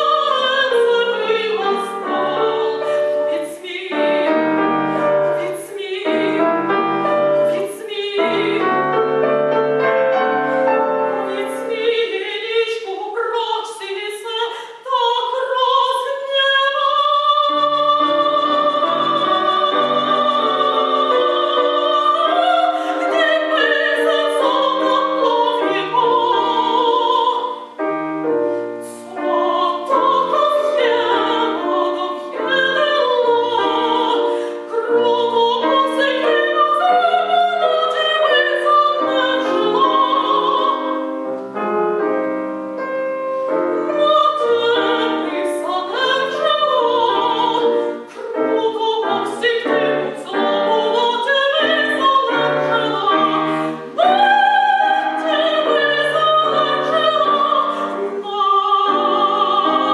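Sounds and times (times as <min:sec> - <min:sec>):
soprano singing opera: 0:00.0 - 0:42.3, 0:43.4 - 0:59.9
piano accompaniment: 0:00.0 - 0:59.9.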